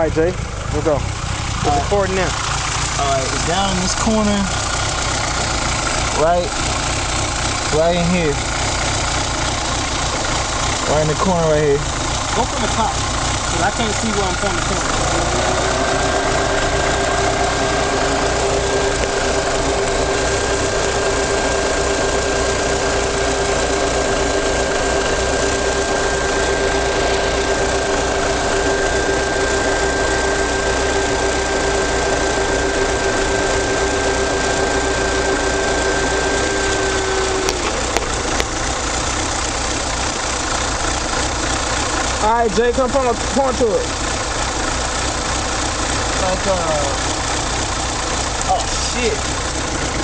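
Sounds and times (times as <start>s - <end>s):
car engine running: 0.0s - 50.0s
constant whine: 0.0s - 50.0s.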